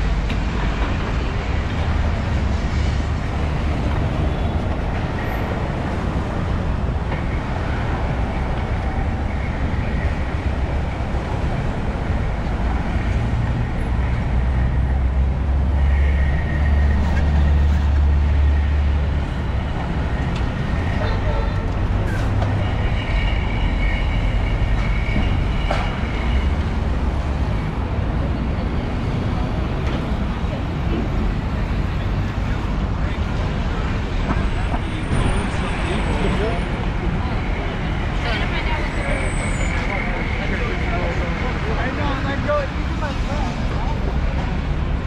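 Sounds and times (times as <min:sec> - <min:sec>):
city street traffic: 0:00.0 - 0:45.0.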